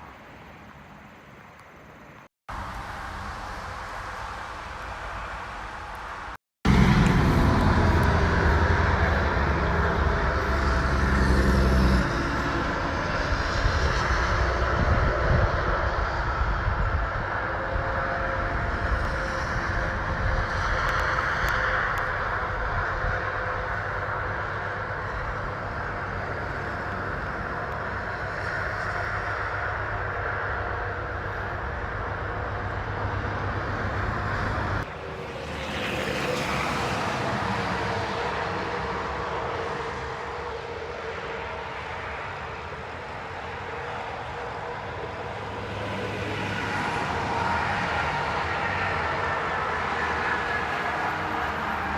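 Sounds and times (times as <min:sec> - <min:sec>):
heavy engine rumbling: 0:02.5 - 0:51.9.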